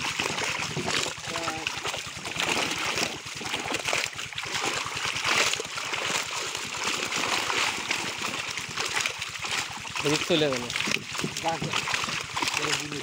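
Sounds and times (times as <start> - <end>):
fish thrashing and splashing: 0.0 - 13.0
water sloshing: 0.0 - 13.0.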